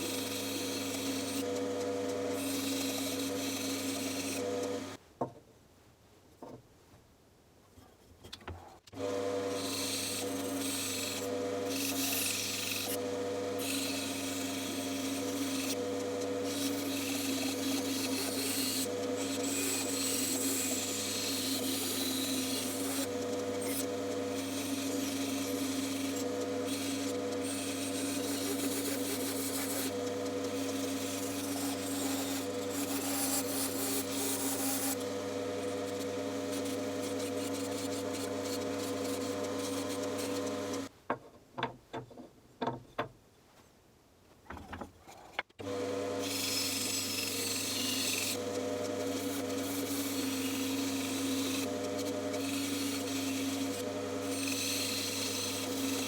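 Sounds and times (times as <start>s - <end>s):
bandsaw motor hum: 0.0s - 5.0s, 8.9s - 40.9s, 45.6s - 56.0s
blade cutting wood: 0.0s - 5.0s, 8.9s - 40.9s, 45.6s - 56.0s.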